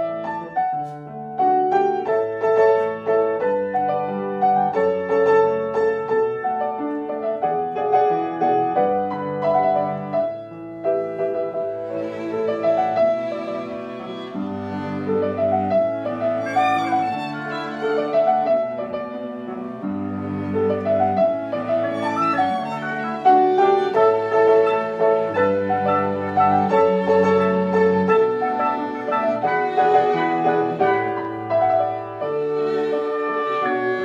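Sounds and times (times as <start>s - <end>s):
chamber ensemble playing classical: 0.0s - 34.0s.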